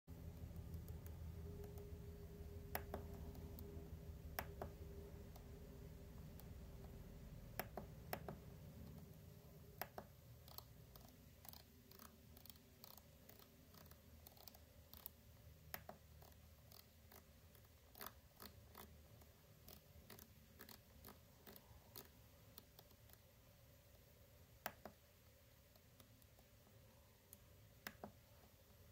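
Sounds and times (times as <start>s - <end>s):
low steady hum: 0.1s - 28.9s.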